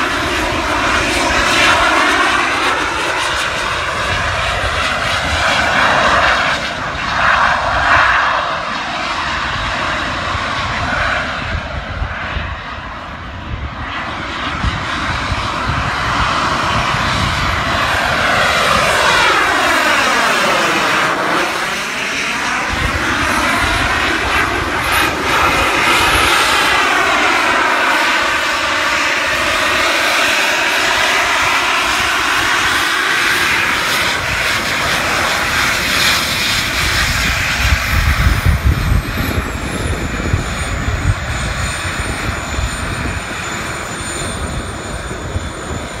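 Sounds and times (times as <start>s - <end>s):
gusty low rumble: 0.0s - 46.0s
jet turbines whining: 0.0s - 46.0s.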